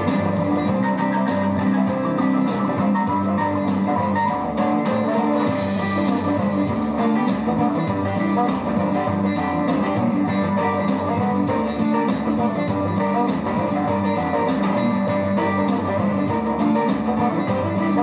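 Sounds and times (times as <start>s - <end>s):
guitar music through speaker: 0.0s - 18.0s.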